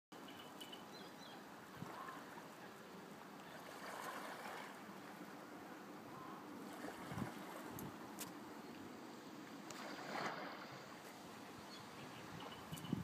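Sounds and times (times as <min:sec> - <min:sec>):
water: 0:00.1 - 0:13.0
wind: 0:00.1 - 0:13.0.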